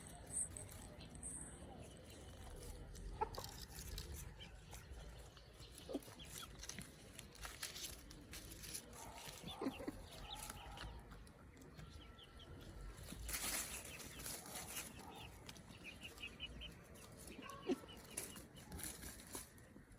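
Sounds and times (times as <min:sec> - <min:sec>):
chickens clucking: 0:00.0 - 0:19.9.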